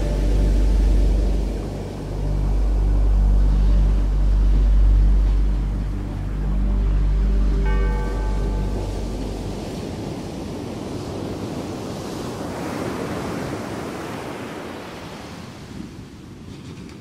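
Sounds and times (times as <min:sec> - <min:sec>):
rushing sea water: 0:00.0 - 0:17.0.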